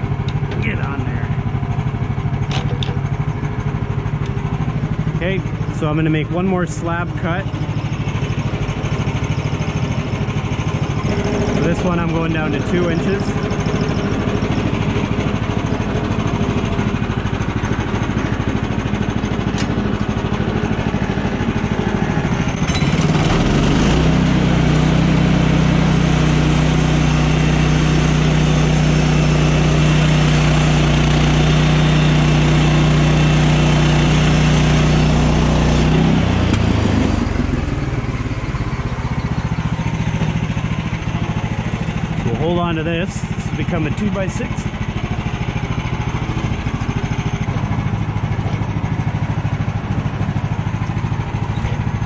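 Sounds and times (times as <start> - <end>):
sawmill gasoline engine running: 0.0 - 52.0.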